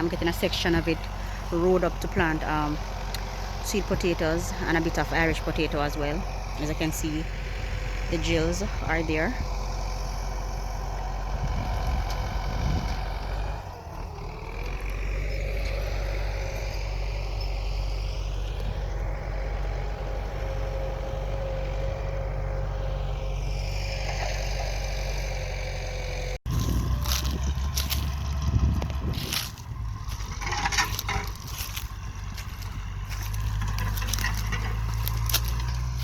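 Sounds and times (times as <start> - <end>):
tractor engine running under load: 0.0 - 36.0.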